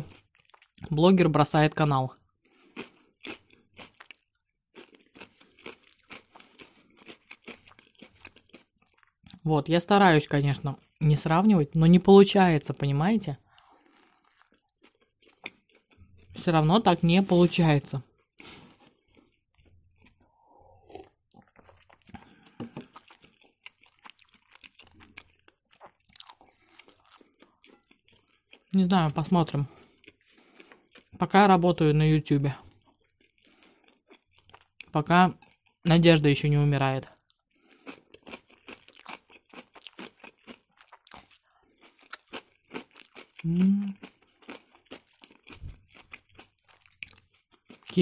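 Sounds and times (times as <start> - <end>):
wet chewing with mouth clicks: 0.0 - 0.9, 2.3 - 9.4, 13.5 - 16.4, 17.0 - 28.8, 29.5 - 31.2, 32.5 - 35.8, 37.0 - 48.0.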